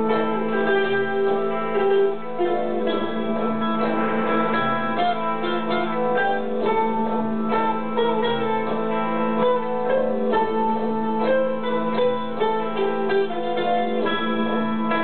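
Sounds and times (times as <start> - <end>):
plucked melody notes: 0.0 - 15.0.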